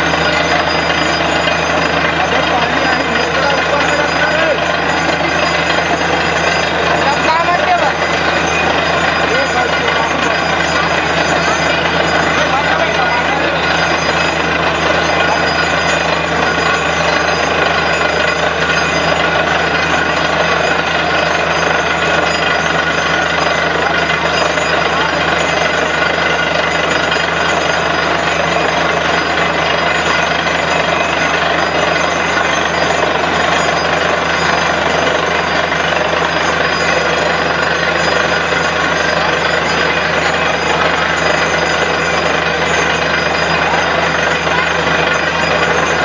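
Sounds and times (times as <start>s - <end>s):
air blowing water from borehole: 0.0s - 46.0s
drilling rig engine droning: 0.0s - 46.0s
hammering rattle: 0.0s - 46.0s.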